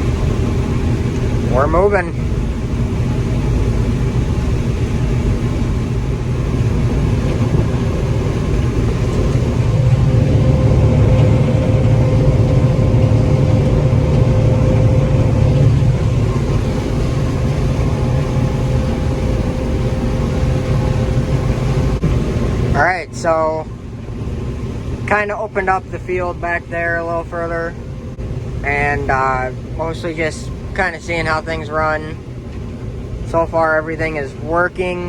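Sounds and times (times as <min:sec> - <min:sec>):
combine harvester rumble: 0:00.0 - 0:35.0
steady machine whine: 0:00.0 - 0:35.0.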